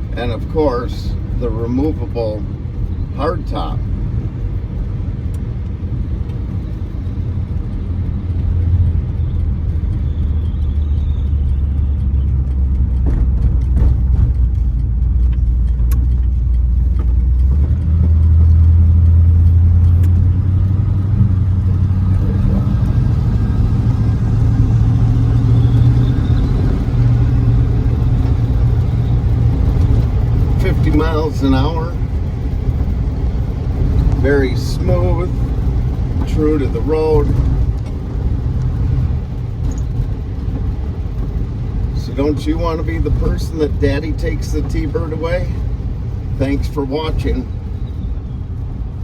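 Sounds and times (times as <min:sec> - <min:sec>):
car engine drone: 0:00.0 - 0:49.0
road noise: 0:00.0 - 0:49.0.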